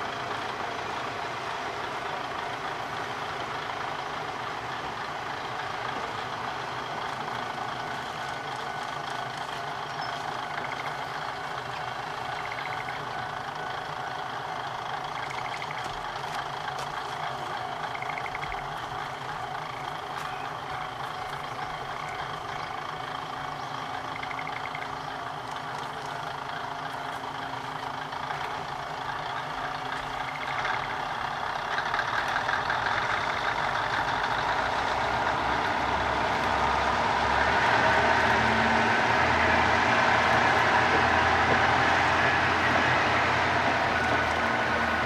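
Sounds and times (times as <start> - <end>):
diesel railcar engine: 0.0 - 45.0.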